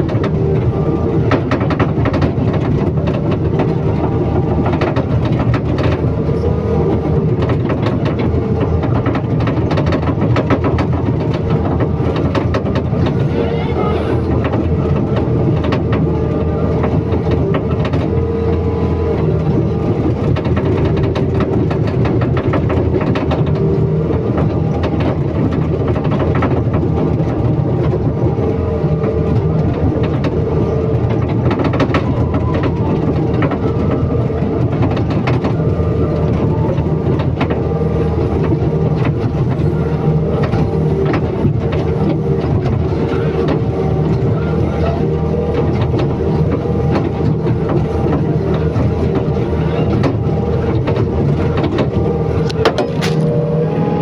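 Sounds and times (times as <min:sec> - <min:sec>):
machine knocks and rattles: 0:00.0 - 0:53.4
excavator diesel engine running: 0:00.0 - 0:54.0.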